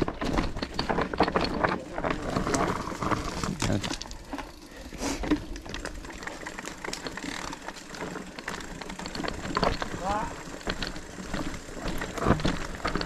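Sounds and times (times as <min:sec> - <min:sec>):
bike freewheel hub ticking: 0:00.0 - 0:13.0
bike rattling over rough ground: 0:00.0 - 0:13.0.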